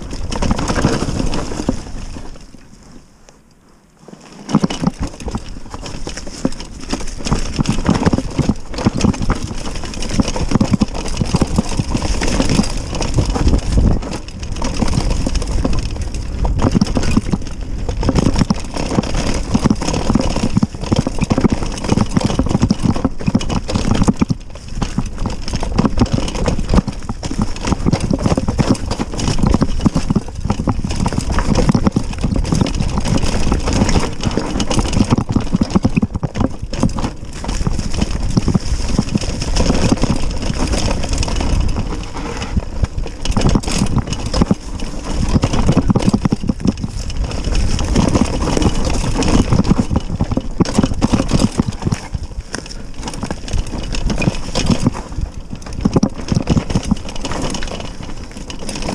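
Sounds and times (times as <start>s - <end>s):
mountain bike rattling over rocks: 0.0s - 3.1s, 4.0s - 58.9s.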